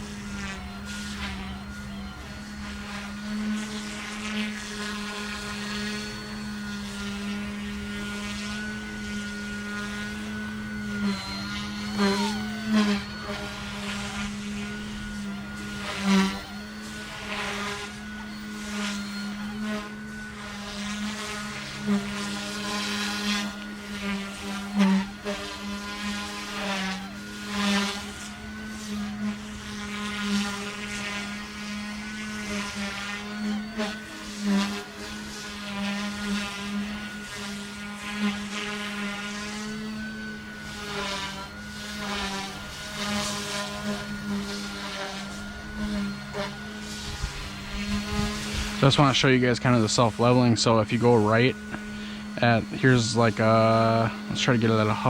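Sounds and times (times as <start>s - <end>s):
electric helicopter rotor whine: 0.0s - 55.0s.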